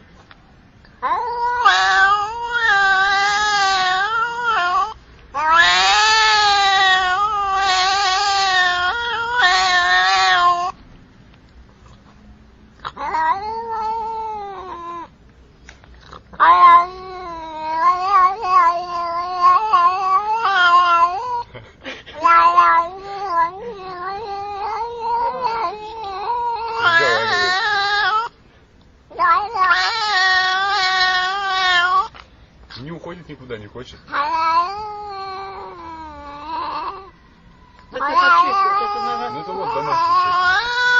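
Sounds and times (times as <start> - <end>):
cat yowling: 1.0 - 10.8, 12.8 - 15.2, 16.0 - 21.5, 22.1 - 28.4, 29.1 - 32.2, 34.0 - 40.9.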